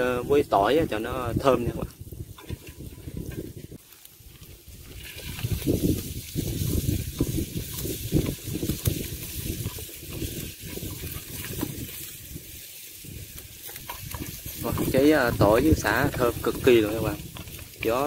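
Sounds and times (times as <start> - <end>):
garlic sizzling in hot oil: 0.0 - 18.0
wind rumble on microphone: 0.0 - 18.0.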